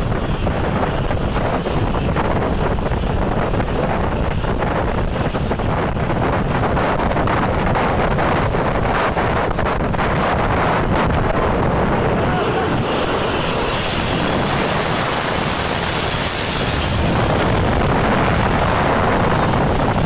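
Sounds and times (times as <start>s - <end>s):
road traffic rumble: 0.0s - 20.0s
wind buffeting microphone: 0.0s - 20.0s.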